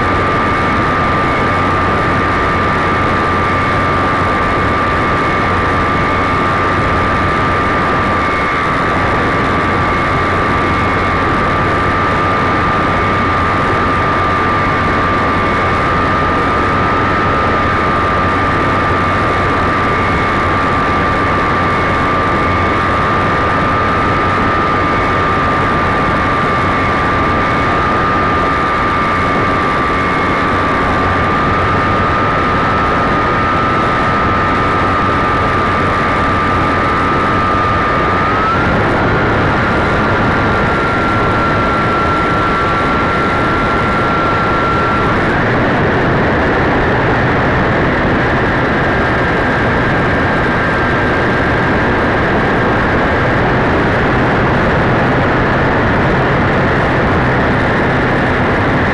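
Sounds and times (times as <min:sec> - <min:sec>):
airflow rush on microphone: 0:00.0 - 0:58.9
model airplane motor whine: 0:00.0 - 0:58.9.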